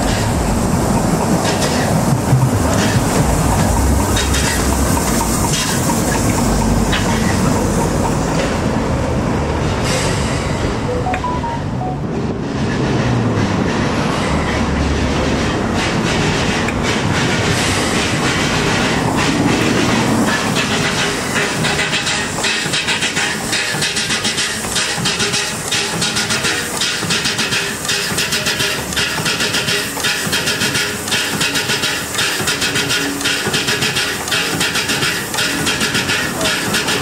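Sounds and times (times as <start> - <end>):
wheels clicking on track: 0.0 - 10.1, 12.4 - 37.0
train rumbling on rails: 0.0 - 37.0.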